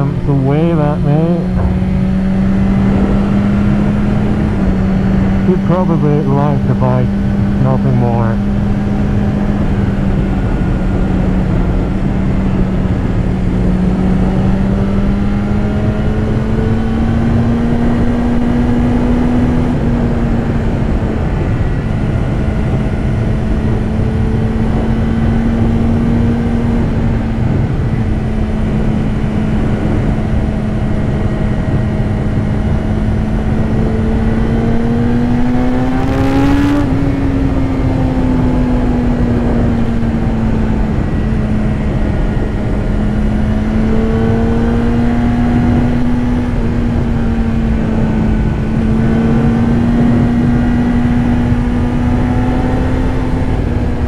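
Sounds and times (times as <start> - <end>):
motorcycle engine cruising: 0.0 - 54.0
wind rush on microphone: 1.2 - 5.5, 8.3 - 54.0.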